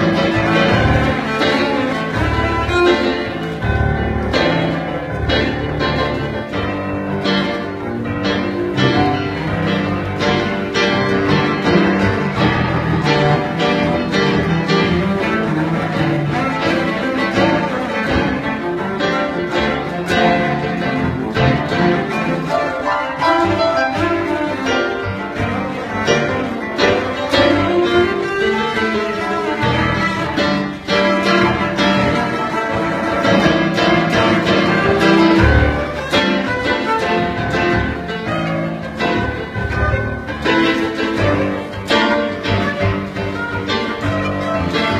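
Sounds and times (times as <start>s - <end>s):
cello bowed melody: 0.0s - 44.9s.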